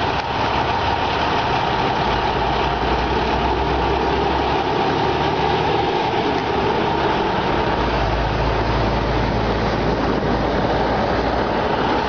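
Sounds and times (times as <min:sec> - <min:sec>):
truck passing at highway speed: 0:00.0 - 0:12.0.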